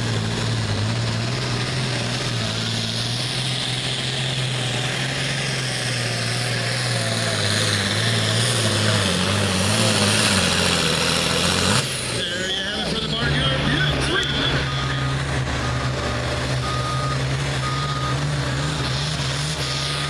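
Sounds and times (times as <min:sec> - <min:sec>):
diesel engine under full load: 0:00.0 - 0:20.0.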